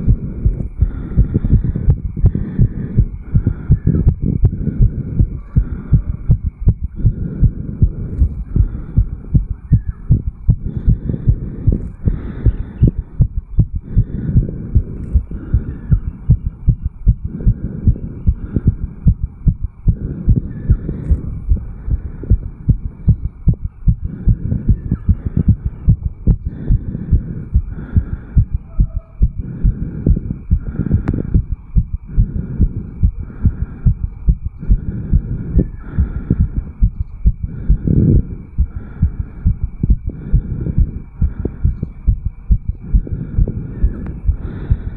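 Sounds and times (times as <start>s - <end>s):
fast heartbeat: 0.0s - 44.9s.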